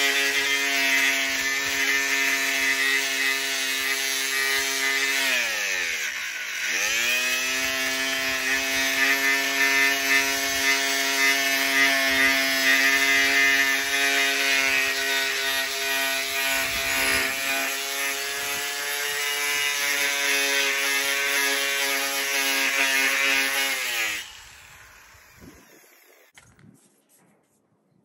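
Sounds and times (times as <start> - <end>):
angle grinder motor whine: 0.0 - 26.4
grinder winding down: 0.0 - 26.4
grinder scraping metal: 0.0 - 27.1.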